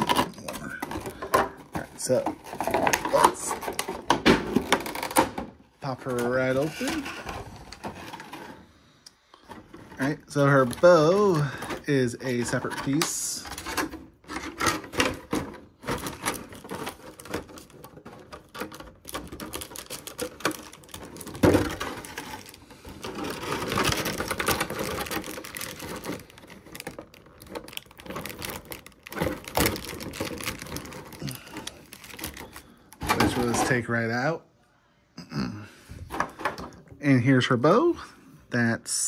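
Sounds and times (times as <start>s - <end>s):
plastic and cardboard packaging crinkling: 0.0s - 34.3s.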